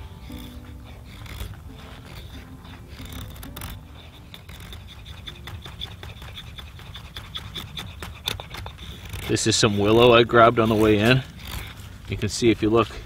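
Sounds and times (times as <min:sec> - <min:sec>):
knife scraping wood: 0:00.0 - 0:13.0.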